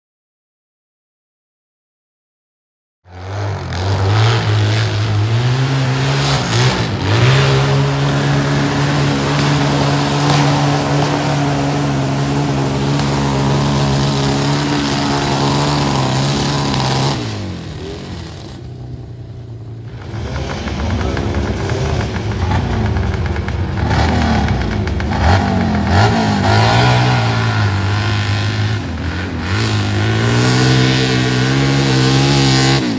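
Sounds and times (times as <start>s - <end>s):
motorcycle engine revving hard: 3.1s - 32.9s.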